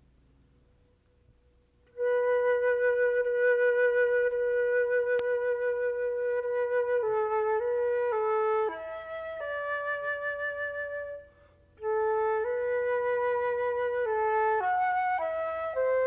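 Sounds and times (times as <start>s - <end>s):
solo flute melody: 1.8s - 16.0s.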